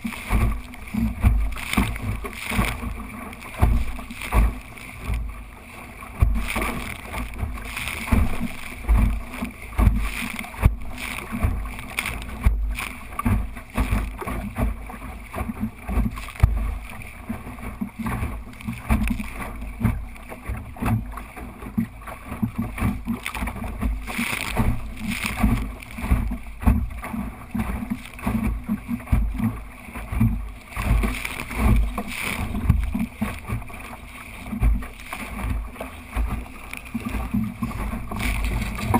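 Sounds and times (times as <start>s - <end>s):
water rushing along boat hull: 0.0s - 38.9s.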